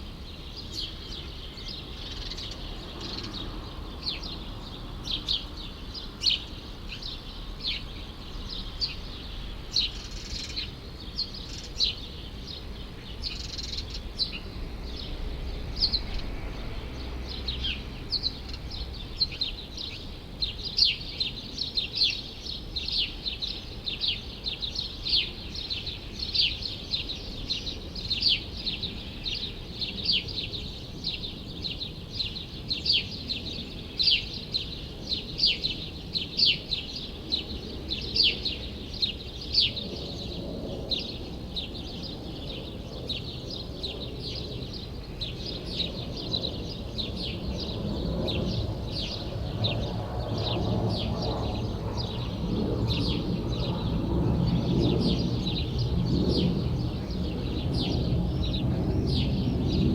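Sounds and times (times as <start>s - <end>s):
low city traffic rumble: 0.0s - 59.9s
small birds chirping: 0.1s - 59.9s.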